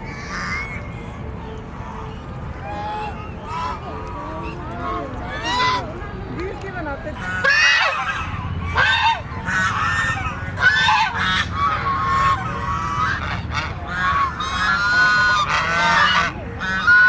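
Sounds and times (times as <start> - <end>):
waterfowl honking: 0.2 - 1.2, 1.8 - 5.9, 7.2 - 17.0.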